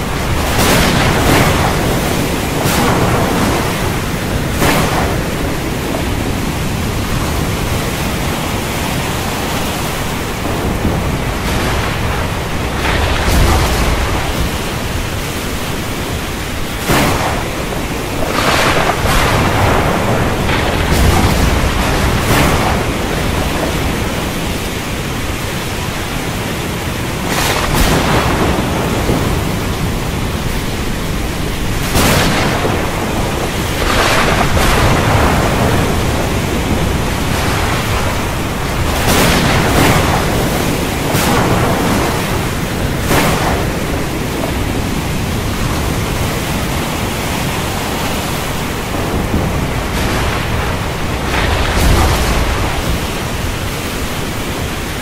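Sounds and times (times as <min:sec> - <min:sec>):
rain: 0:00.0 - 0:55.0
waves crashing: 0:00.0 - 0:55.0
wind roaring: 0:00.0 - 0:55.0.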